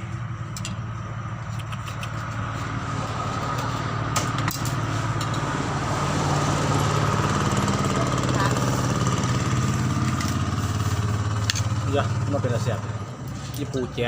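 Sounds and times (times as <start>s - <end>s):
motor engine humming: 0.0s - 13.4s.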